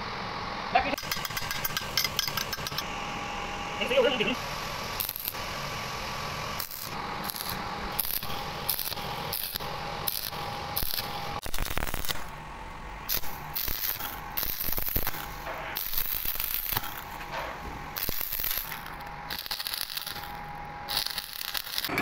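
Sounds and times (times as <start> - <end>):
welding arc crackling: 3.8 - 12.4, 13.0 - 22.0.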